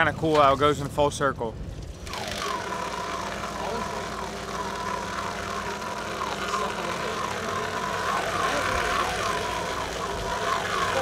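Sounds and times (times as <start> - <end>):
boat engine humming: 1.6 - 11.0
rhythmic squeak of line: 2.1 - 11.0.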